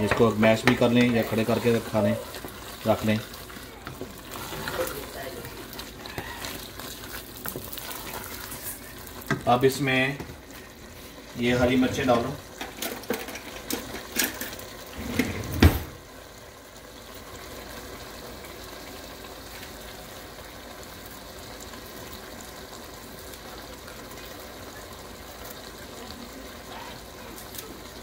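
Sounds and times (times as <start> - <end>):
curry bubbling in a pot: 0.0 - 15.0, 16.0 - 28.0.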